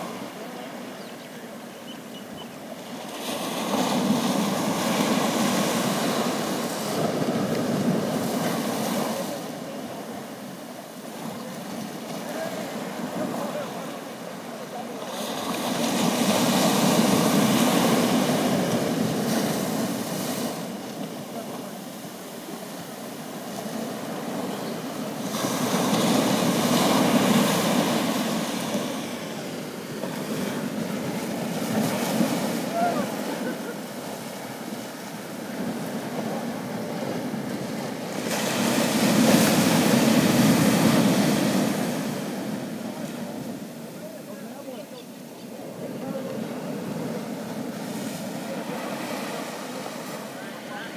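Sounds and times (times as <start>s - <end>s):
surf crashing on rocks: 0.0s - 1.7s, 2.6s - 50.9s.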